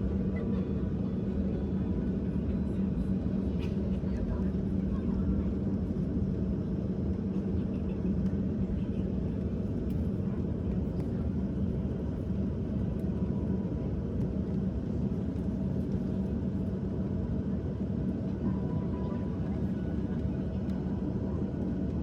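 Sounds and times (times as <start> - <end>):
airliner cabin rumble and hum: 0.0 - 22.0.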